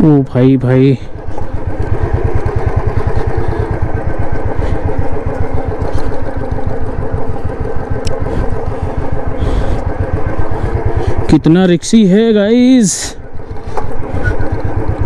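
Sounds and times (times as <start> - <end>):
motorcycle engine thumping: 0.5 - 11.4, 13.2 - 15.0.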